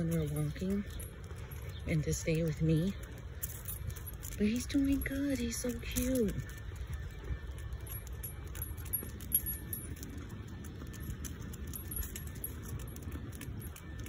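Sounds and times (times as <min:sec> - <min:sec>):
leash clip jingling: 0:00.0 - 0:14.0.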